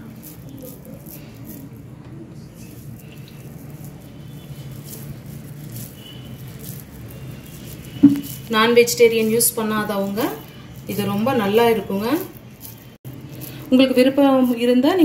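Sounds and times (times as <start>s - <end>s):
hands rolling moist mixture: 0.0s - 15.0s.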